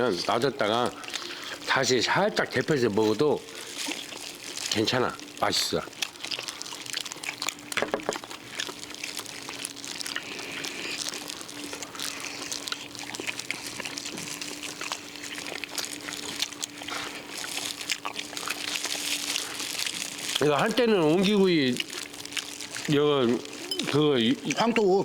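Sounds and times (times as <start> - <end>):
faint steady hum: 0.0 - 25.0
person chewing food: 0.0 - 25.0.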